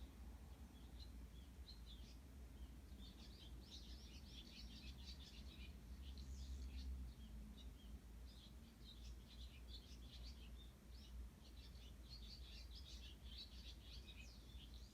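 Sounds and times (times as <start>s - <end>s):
sparrows chirping: 0.0s - 14.9s.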